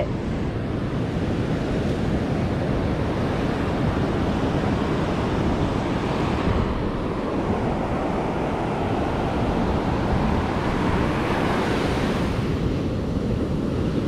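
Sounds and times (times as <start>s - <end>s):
ocean surf breaking: 0.0s - 13.9s
wind buffeting microphone: 0.0s - 14.0s.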